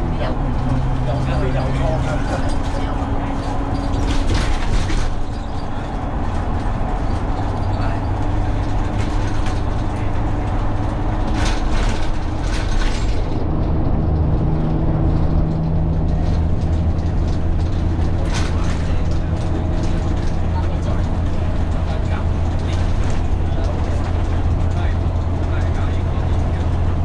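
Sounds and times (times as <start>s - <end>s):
bus engine humming: 0.0s - 27.0s
rattles: 1.5s - 27.0s.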